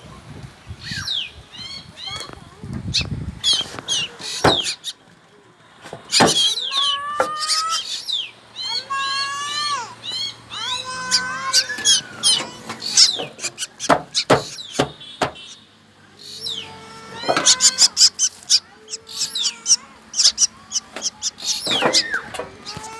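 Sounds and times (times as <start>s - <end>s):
harsh rasping bird calls: 0.8s - 5.1s, 5.8s - 22.9s
nestlings chirping shrilly: 0.8s - 5.1s, 5.8s - 22.9s.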